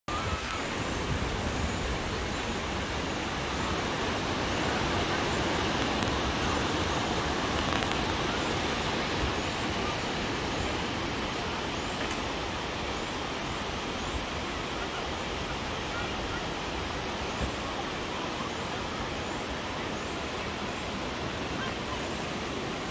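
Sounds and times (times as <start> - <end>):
surf breaking on beach: 0.1 - 22.9.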